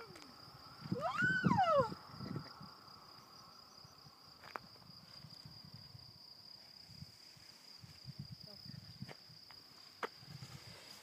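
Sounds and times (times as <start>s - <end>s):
wind rumble on microphone: 0.0s - 3.1s, 3.8s - 9.5s, 10.2s - 11.0s
crickets chirring: 0.0s - 11.0s.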